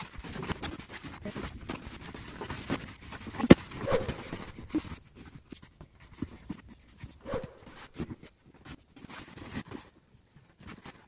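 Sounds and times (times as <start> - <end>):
canvas rustling and rubbing: 0.0 - 11.0.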